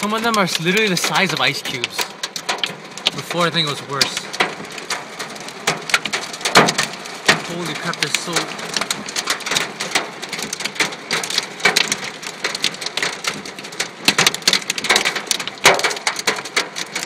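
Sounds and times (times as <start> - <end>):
hailstones pelting a car: 0.0 - 17.0.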